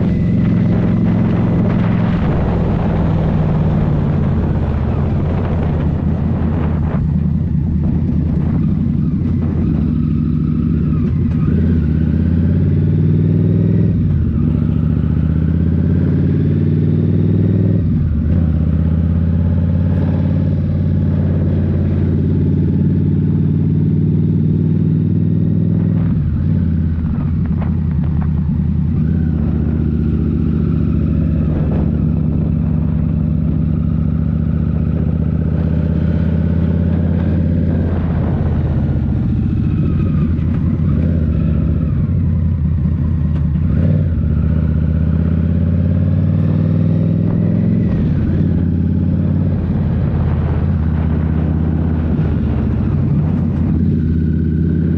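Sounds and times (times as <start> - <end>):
motorcycle engine riding: 0.0 - 54.9.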